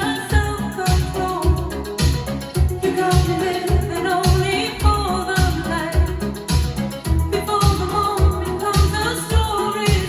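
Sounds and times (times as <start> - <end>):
pop song through speakers: 0.0 - 10.0.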